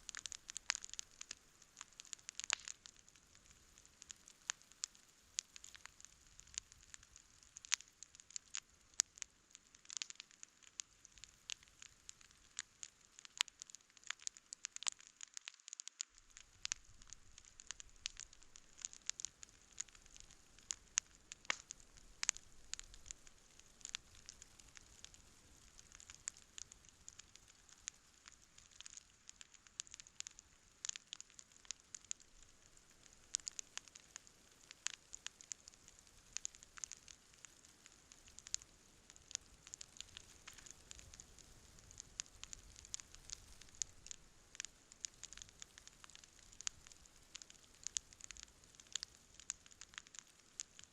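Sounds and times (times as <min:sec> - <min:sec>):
campfire crackling and popping: 0:00.0 - 0:50.9
faint hiss: 0:00.0 - 0:50.9.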